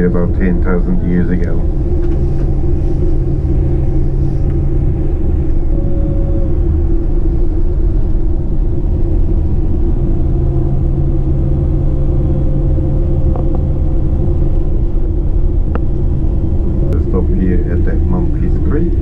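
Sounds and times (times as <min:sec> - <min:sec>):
coach engine and road noise: 0:00.0 - 0:19.0.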